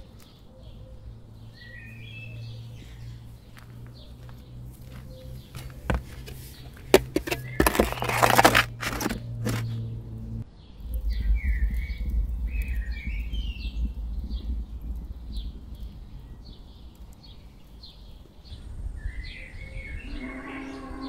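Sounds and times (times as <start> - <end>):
birds chirping: 0.0 - 21.0
low rumble: 0.7 - 21.0.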